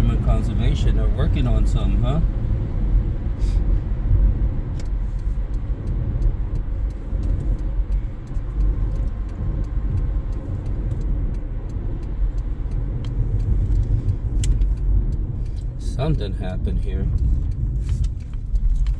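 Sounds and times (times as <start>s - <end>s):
car road and engine rumble: 0.0s - 18.9s
light ticks and rattles: 0.0s - 18.9s.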